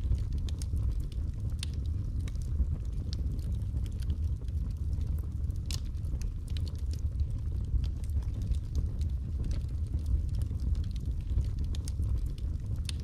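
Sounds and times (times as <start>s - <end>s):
fire crackling and popping: 0.0s - 13.0s
fire rumbling: 0.0s - 13.0s.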